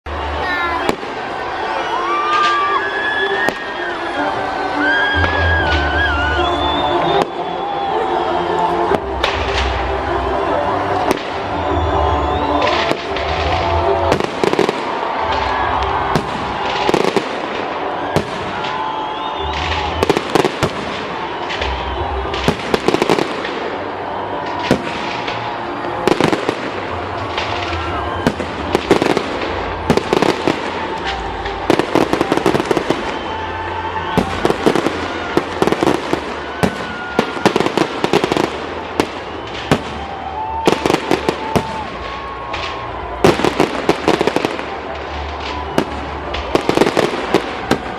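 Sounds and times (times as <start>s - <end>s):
fireworks bangs and crackles: 0.1s - 47.9s.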